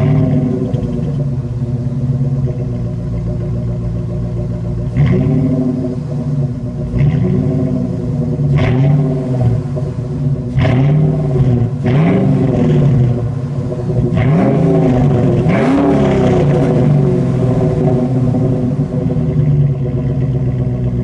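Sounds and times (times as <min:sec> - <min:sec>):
car engine exhaust revving: 0:00.0 - 0:21.0.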